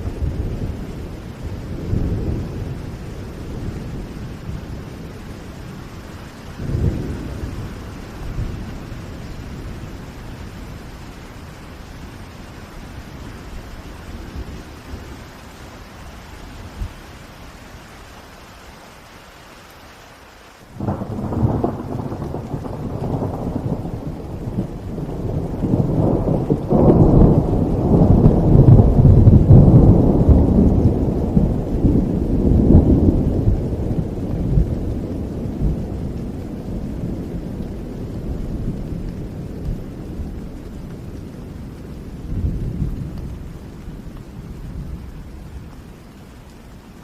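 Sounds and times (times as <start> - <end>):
thunder rumbling: 0.0 - 17.1, 20.7 - 47.0
steady rain: 0.0 - 47.0.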